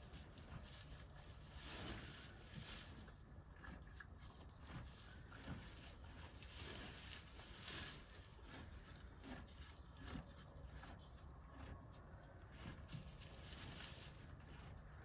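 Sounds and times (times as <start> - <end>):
horse chewing hay: 0.0 - 15.0
low background rumble: 0.0 - 15.0.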